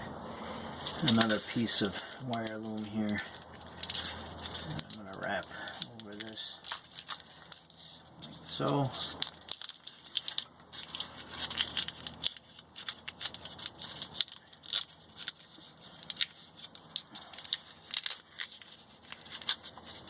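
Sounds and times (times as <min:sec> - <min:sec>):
plastic crackling and clicking: 0:00.9 - 0:07.8, 0:08.7 - 0:20.0.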